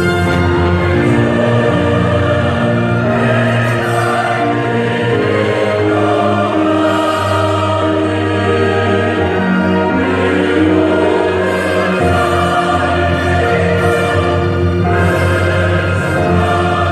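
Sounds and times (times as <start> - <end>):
choir singing: 0.0 - 16.9
orchestral accompaniment: 0.0 - 16.9.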